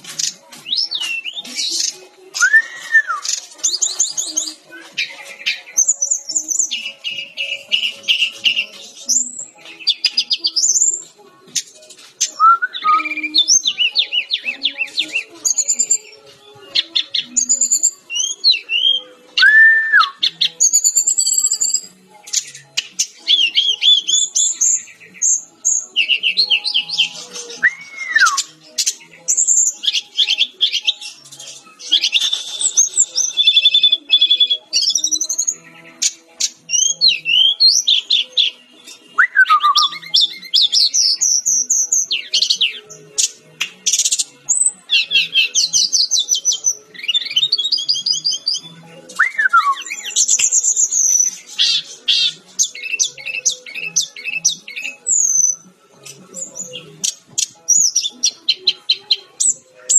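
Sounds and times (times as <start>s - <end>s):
flycatcher singing: 0.0s - 59.9s.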